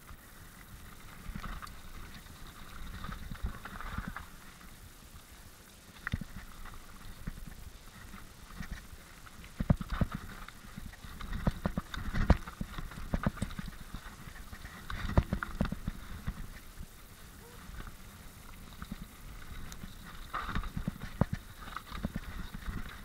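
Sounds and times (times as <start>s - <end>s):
mountain bike rattling over rocks: 0.0s - 23.0s.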